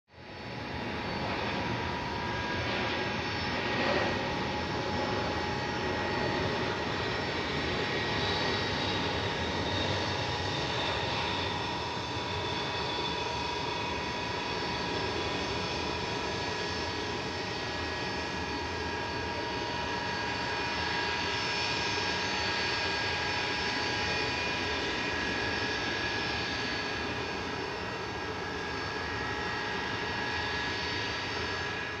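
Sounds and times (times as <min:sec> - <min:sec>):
jet engines rumbling: 0:00.2 - 0:32.0.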